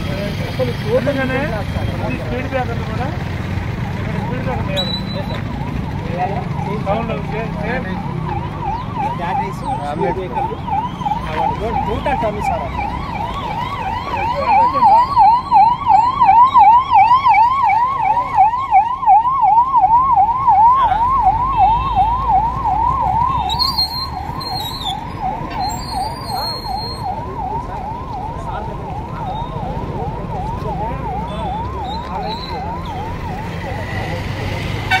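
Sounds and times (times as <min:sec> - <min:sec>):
road traffic: 0:00.0 - 0:35.0
emergency siren yelping: 0:03.8 - 0:35.0.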